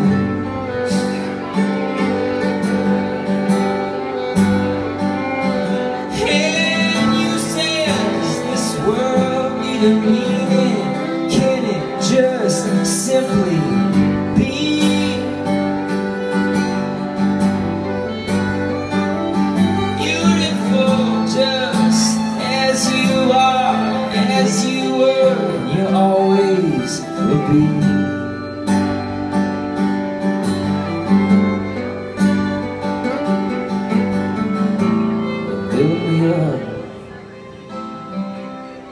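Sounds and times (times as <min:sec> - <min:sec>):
acoustic guitars: 0:00.0 - 0:38.9
violin sliding melody: 0:00.0 - 0:38.9.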